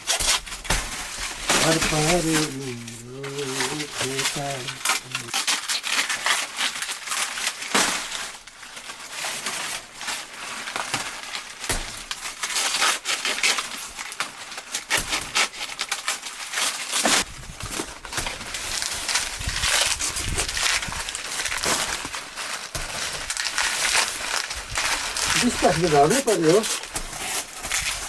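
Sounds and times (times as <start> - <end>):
dry plants crunching and snapping: 0.0 - 28.0.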